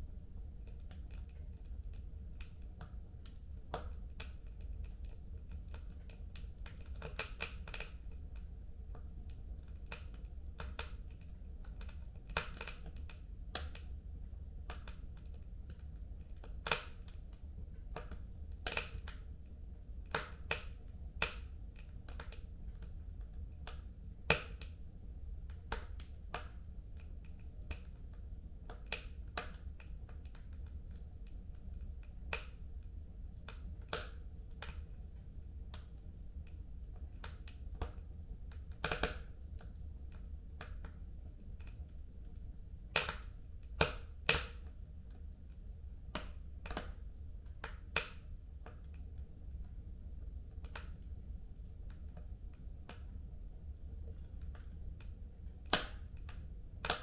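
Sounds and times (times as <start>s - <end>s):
low steady rumble: 0.0s - 6.7s, 17.2s - 57.0s
wood fire crackling and popping: 0.0s - 57.0s.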